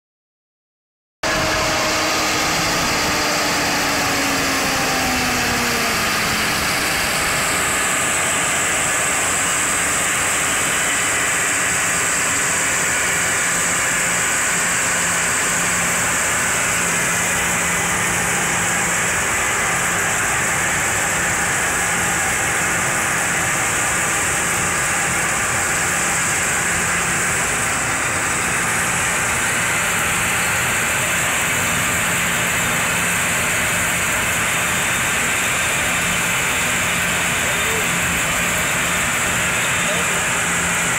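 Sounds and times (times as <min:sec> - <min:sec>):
tractor engine running: 0:01.2 - 0:40.9.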